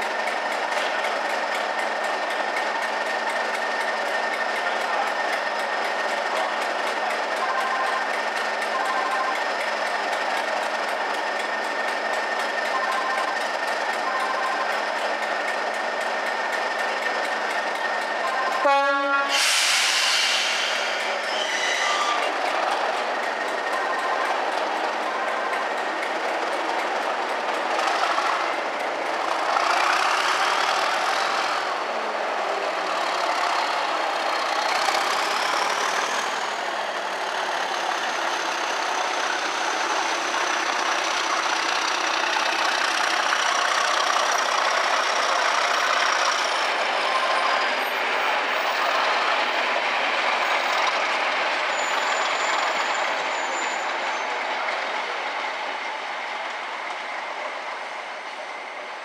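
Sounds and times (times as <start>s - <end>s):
coaches rumbling on rails: 0.0s - 59.0s
diesel locomotive engine: 0.0s - 59.0s.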